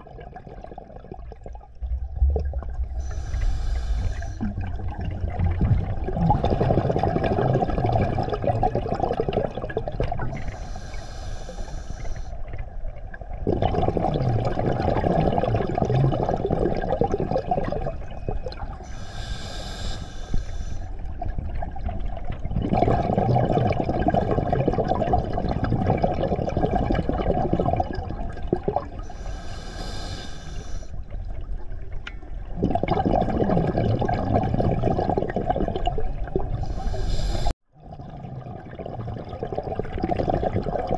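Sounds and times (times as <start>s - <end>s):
exhaled bubbles rumbling: 0.0s - 10.7s, 12.4s - 19.1s, 20.8s - 29.4s, 31.0s - 40.9s.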